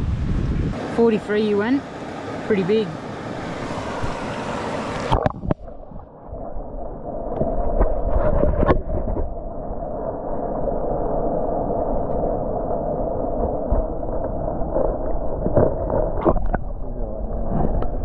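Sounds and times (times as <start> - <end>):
stream water running: 0.0 - 16.9
muffled underwater rush: 0.0 - 18.0.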